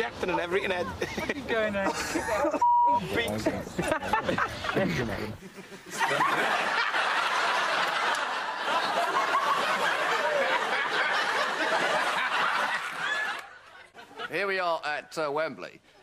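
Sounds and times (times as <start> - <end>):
crowd laughing: 0.8 - 14.4.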